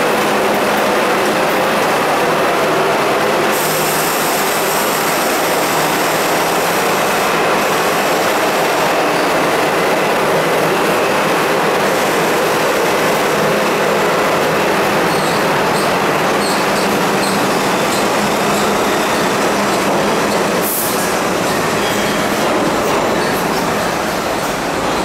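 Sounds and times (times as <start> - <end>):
steel wheels on rail: 0.0 - 25.0.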